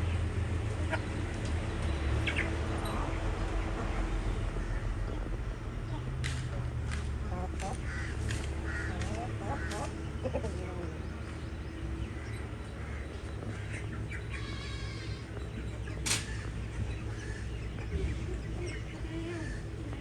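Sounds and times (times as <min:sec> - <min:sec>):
chickens calling and clucking: 0:00.1 - 0:20.0.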